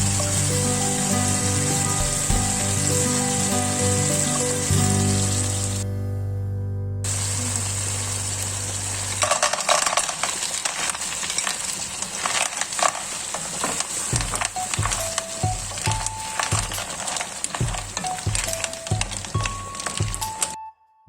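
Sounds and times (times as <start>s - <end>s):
food frying in hot oil: 0.0s - 5.8s, 7.1s - 20.6s.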